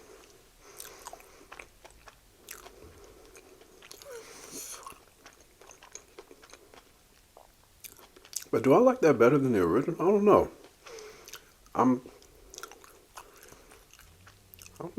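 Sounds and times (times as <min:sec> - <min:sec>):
wet chewing and mouth clicks: 0:00.1 - 0:08.6, 0:10.5 - 0:14.9.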